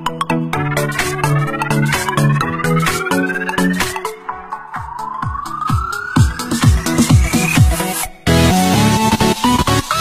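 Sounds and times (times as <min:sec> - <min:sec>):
electronic music with beat: 0:00.0 - 0:10.0
synth sweep rising in pitch: 0:00.6 - 0:09.2.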